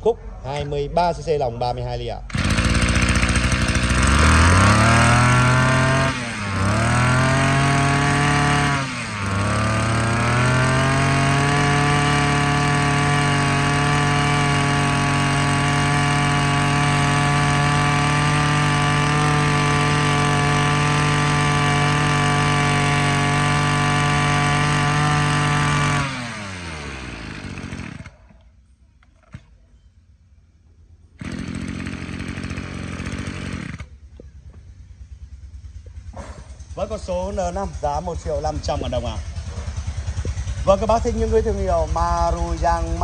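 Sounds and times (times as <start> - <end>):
brush cutter engine revving: 2.2 - 28.4, 31.2 - 34.3, 36.6 - 43.0.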